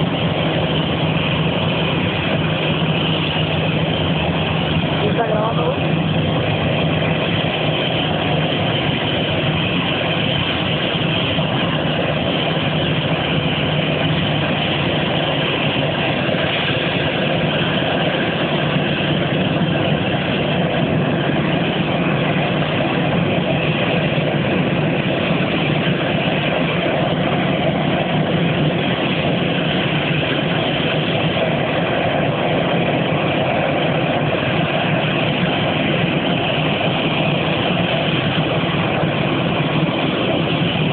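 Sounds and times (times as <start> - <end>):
turbofan engine running: 0.0 - 40.9.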